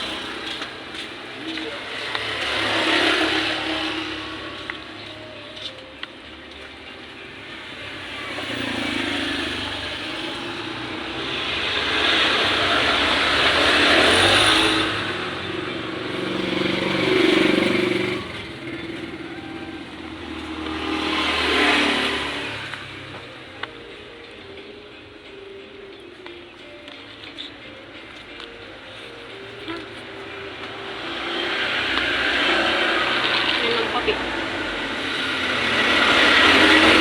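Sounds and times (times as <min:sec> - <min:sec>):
motor vehicles passing: 0:00.0 - 0:37.0.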